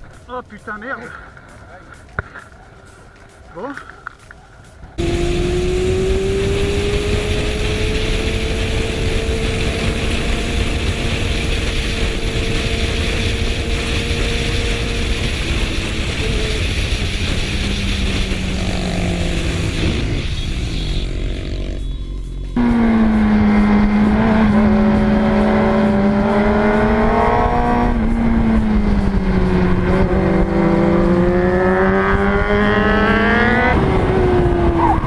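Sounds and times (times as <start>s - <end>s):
motorcycle engine drone: 2.1s - 35.0s
wind noise on microphone: 5.0s - 35.0s.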